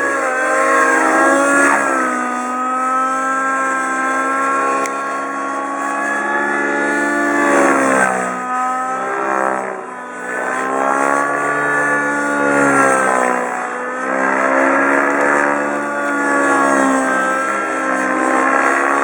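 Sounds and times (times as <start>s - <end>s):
model helicopter engine and rotor drone: 0.0s - 19.0s.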